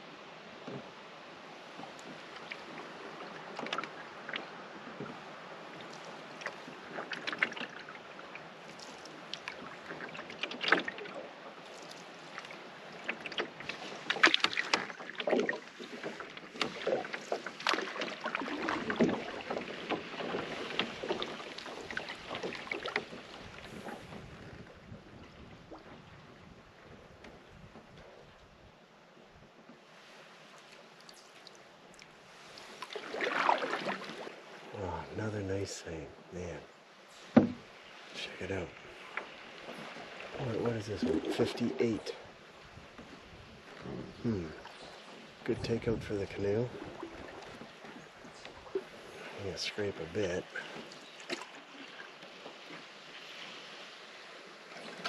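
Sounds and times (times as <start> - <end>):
paddle strokes splashing in water: 0.6 - 28.6, 29.6 - 35.2, 37.0 - 55.0.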